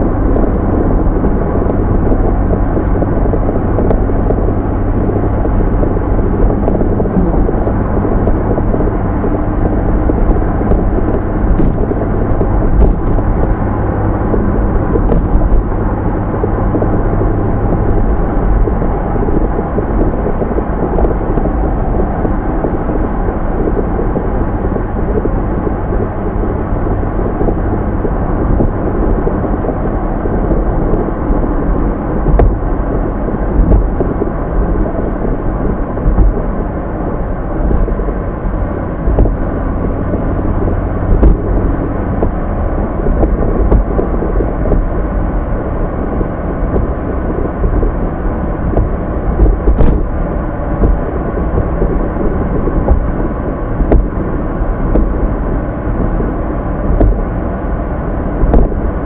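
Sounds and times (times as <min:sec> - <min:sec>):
car engine rumbling: 0:00.0 - 0:59.0
low hum: 0:00.0 - 0:59.0.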